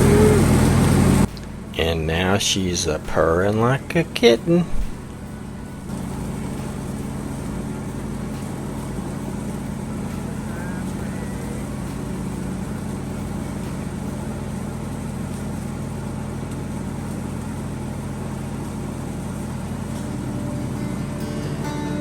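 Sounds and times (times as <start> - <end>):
lawnmower engine running: 0.0 - 22.0.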